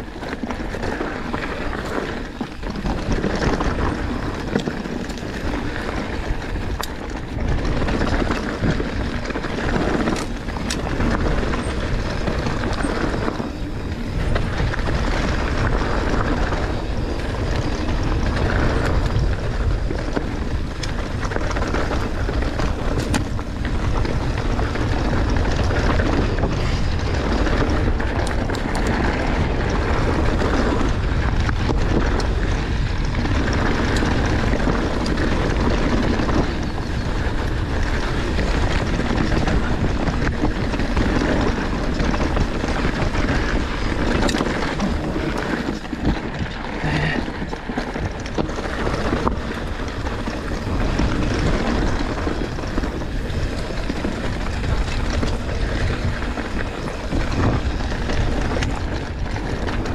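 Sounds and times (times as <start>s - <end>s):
bike clicks and rattles: 0.0s - 59.9s
tyres rumbling on dirt: 0.0s - 59.9s
wind buffeting microphone: 0.0s - 59.9s.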